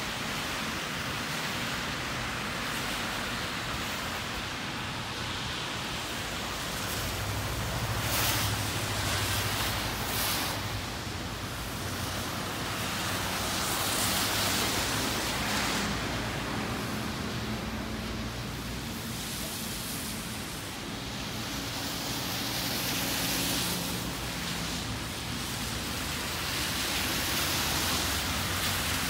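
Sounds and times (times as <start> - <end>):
cars swishing past on wet road: 0.0 - 29.0
heavy rain on pavement: 0.0 - 29.0.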